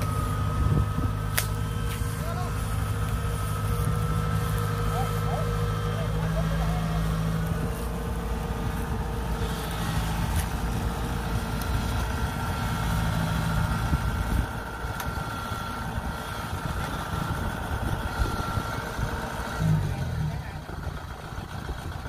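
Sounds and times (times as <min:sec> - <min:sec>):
combine harvester diesel engine: 0:00.0 - 0:22.0
faint steady whine: 0:00.0 - 0:22.0.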